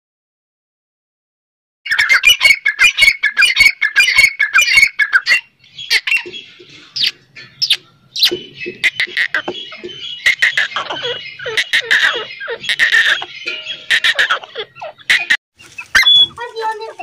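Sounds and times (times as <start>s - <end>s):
francolins calling shrilly: 1.9s - 16.8s.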